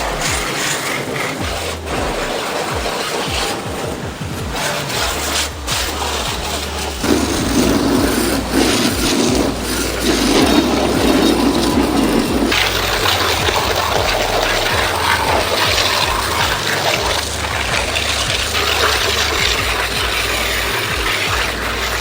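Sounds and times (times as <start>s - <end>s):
pressure washer spraying water: 0.0s - 22.0s
pump motor running: 0.0s - 22.0s.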